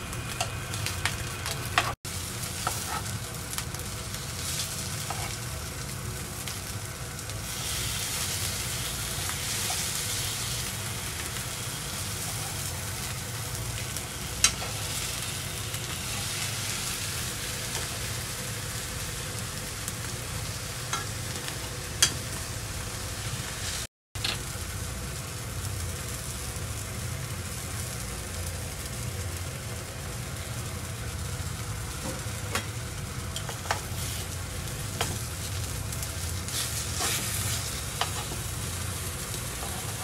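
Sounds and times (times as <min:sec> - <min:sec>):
eggplant sizzling in oil: 0:00.0 - 0:40.0.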